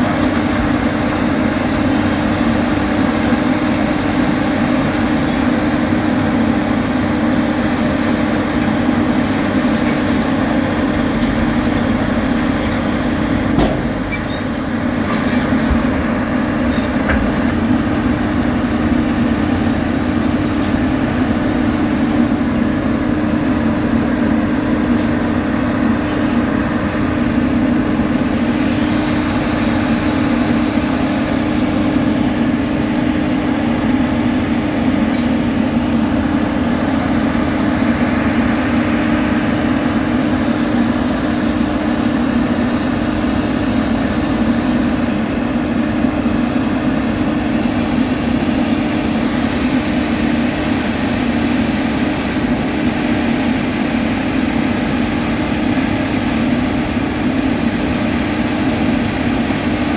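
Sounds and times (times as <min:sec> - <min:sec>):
diesel machinery droning: 0:00.0 - 0:59.9.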